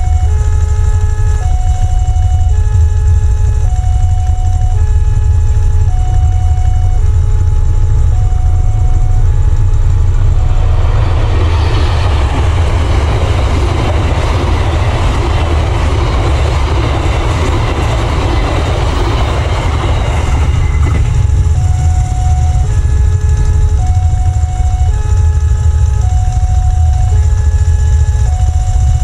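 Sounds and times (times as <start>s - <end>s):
crossing warning chime: 0.0s - 29.0s
train carriages rumbling on rails: 0.0s - 29.0s.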